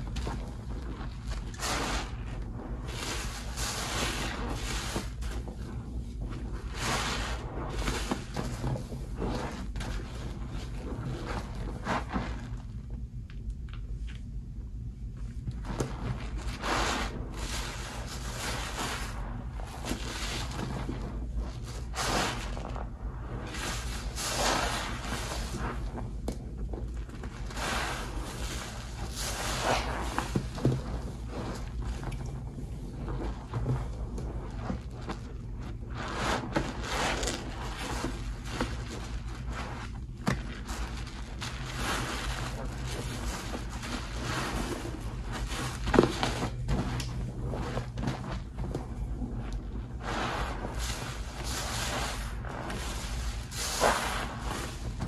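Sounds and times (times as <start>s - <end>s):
foam crackling: 0.0s - 14.0s, 15.0s - 55.0s
steady low hum: 0.0s - 55.0s
wet sponges squishing in suds: 0.0s - 55.0s.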